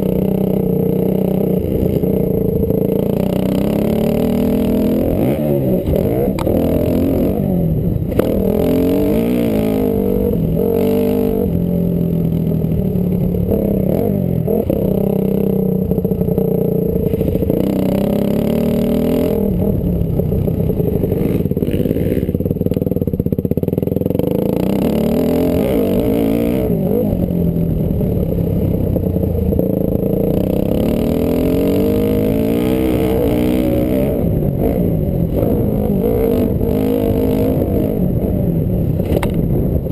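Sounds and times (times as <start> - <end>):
motocross engine revving: 0.0 - 12.2, 16.4 - 22.8, 24.1 - 39.9.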